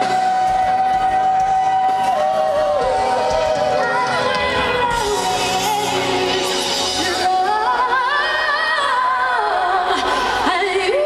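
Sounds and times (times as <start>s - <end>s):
live band playing: 0.0s - 11.0s.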